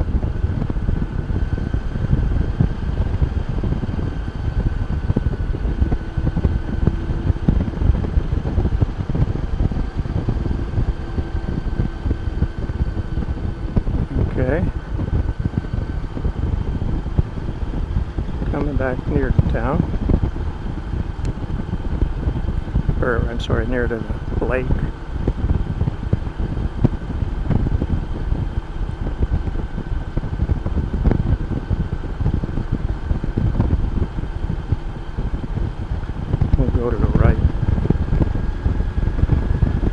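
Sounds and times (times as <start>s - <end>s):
faint motorcycle hum: 0.0s - 39.9s
wind buffeting microphone: 0.0s - 39.9s.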